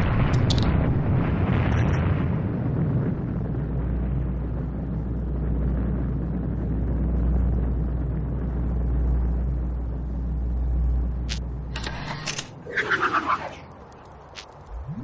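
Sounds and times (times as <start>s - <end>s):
deep steady rumble: 0.0s - 15.0s.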